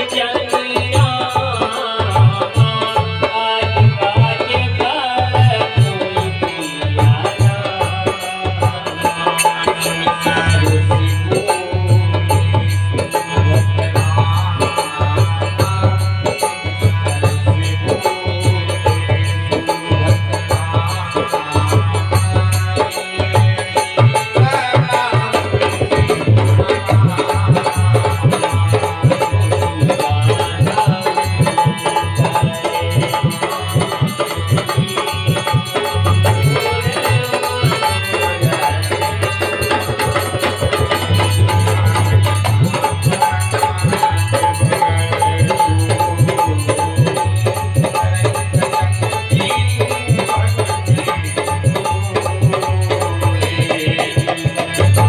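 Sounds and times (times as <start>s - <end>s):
hand drum beat: 6.8s - 55.0s.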